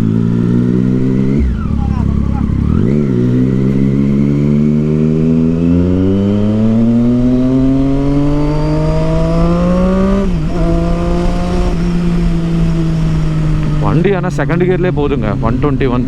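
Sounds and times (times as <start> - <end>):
motorcycle engine pulling hard: 0.0 - 16.0.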